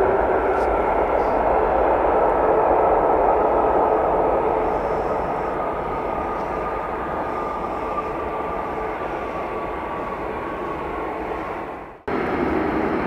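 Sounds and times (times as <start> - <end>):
jet engines rushing and whining: 0.0 - 13.0.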